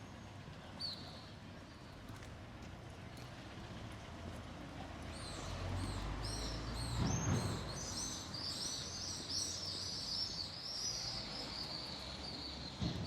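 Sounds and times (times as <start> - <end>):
low town background rumble: 0.0 - 13.0.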